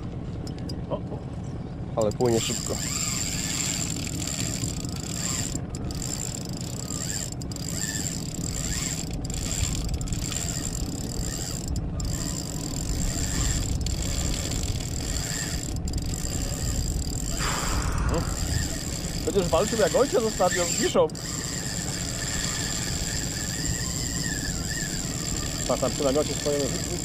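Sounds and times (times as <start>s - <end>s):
fishing reel drag clicking: 2.0s - 27.0s.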